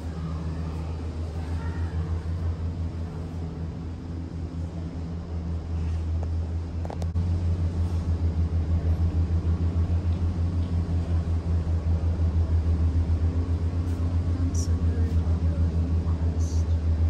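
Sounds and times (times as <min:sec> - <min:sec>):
gondola cabin rumbling hum: 0:00.0 - 0:17.0.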